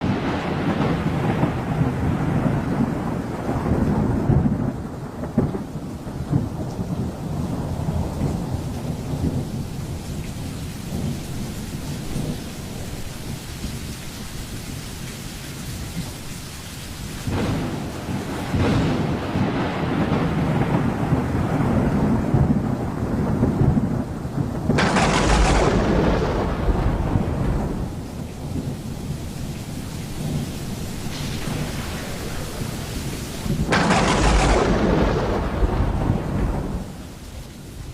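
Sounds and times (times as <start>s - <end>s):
thunder rumbling: 0.0s - 14.8s, 17.2s - 37.9s
steady rain: 0.0s - 37.9s.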